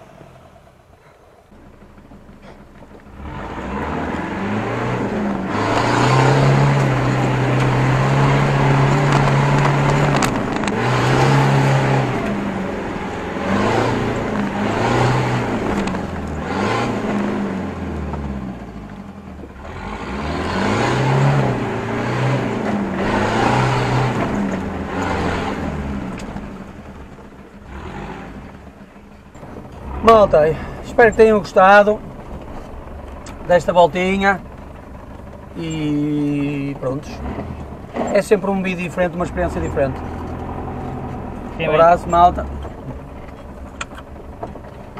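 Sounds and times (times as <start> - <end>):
diesel engine revving: 0.0 - 44.9.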